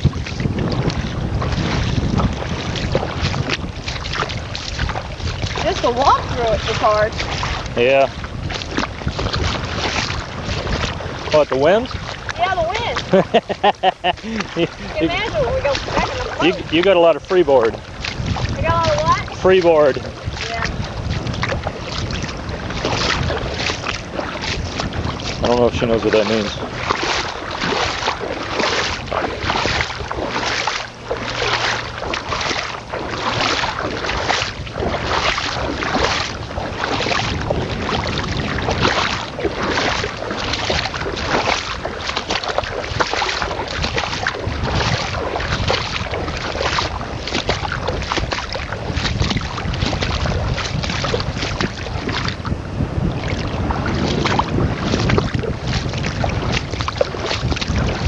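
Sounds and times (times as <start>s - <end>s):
footsteps splashing through water: 0.0s - 58.0s
wind buffeting microphone: 0.0s - 58.0s.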